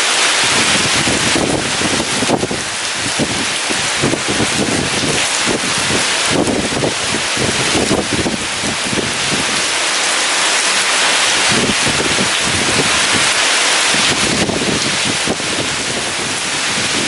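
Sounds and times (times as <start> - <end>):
heavy rain pouring: 0.0 - 17.0
strong wind gusts: 0.0 - 17.0.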